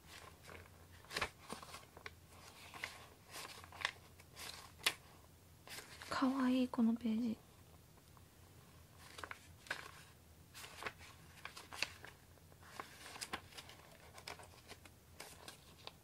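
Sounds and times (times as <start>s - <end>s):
book pages turning: 0.0s - 6.2s, 9.0s - 16.0s.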